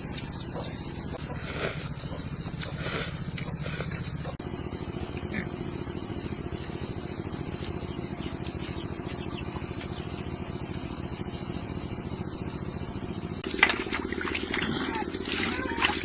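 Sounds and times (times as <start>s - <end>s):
small engine pulsing: 0.0s - 16.0s.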